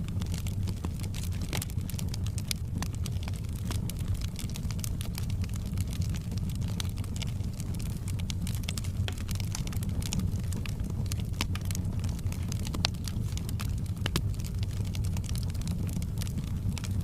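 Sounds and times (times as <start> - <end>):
fire pops and snaps: 0.0 - 17.0
wood fire crackling: 0.0 - 17.0.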